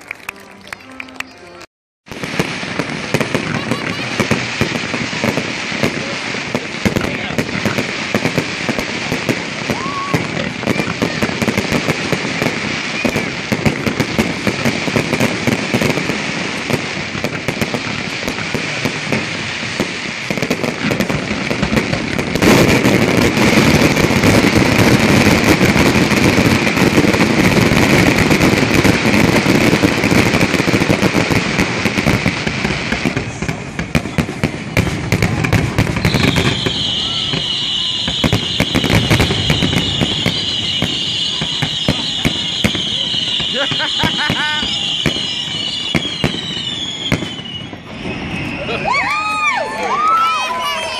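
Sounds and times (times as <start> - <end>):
fireworks pops and bangs: 2.1 - 50.9.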